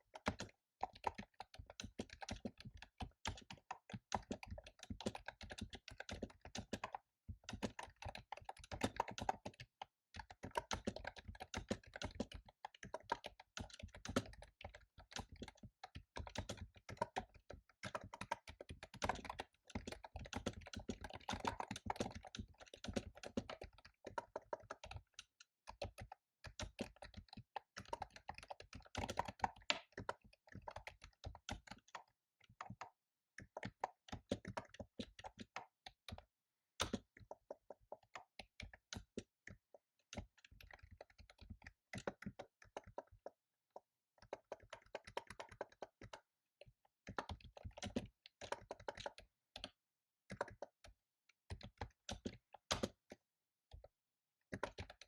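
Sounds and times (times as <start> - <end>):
fast keyboard typing: 0.0 - 55.0.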